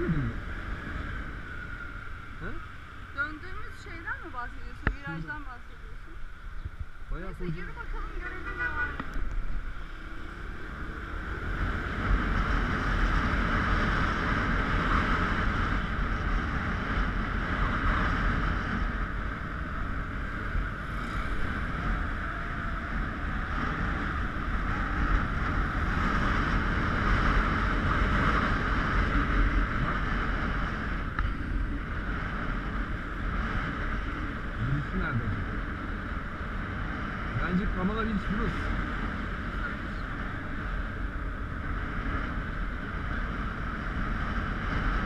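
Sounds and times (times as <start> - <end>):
motorbike engine: 0.0 - 45.0
wind buffeting microphone: 0.0 - 45.0.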